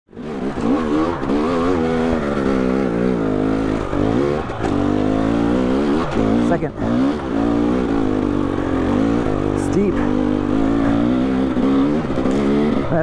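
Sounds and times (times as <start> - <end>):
dirt bike engine revving: 0.1 - 13.0.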